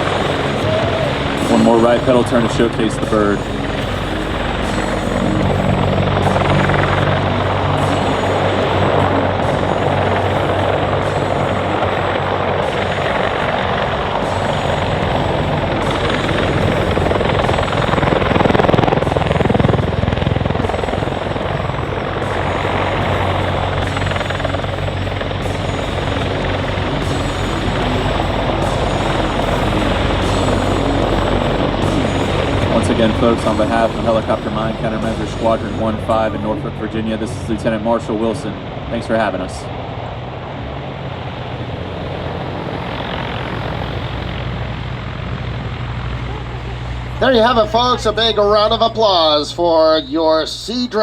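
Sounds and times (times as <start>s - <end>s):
helicopter rotor beat and whine: 0.0s - 51.0s.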